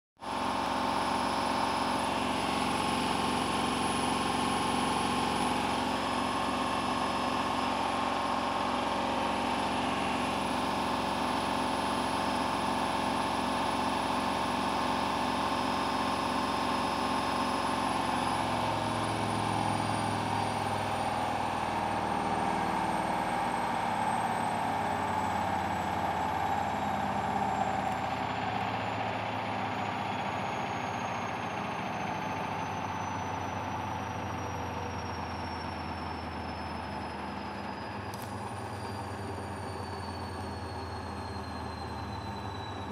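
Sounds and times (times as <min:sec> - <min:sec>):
washing machine spin whine: 0:00.2 - 0:42.9.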